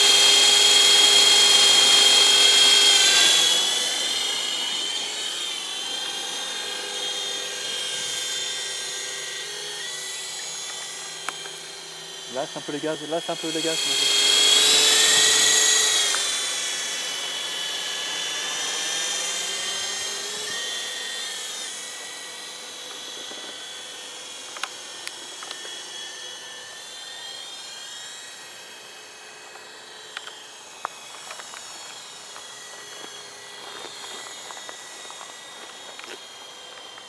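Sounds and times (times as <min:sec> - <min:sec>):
toy helicopter high-pitched whine: 0:00.0 - 0:37.0.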